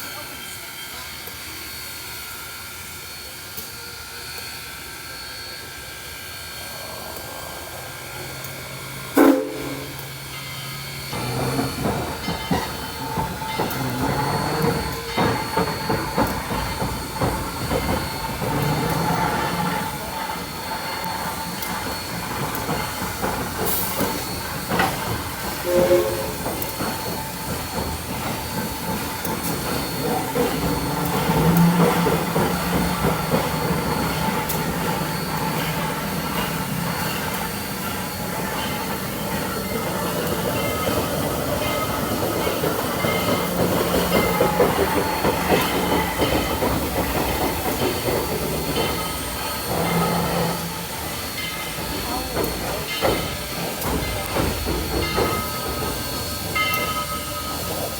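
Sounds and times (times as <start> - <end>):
train wheels rattling on rails: 0.0 - 57.9.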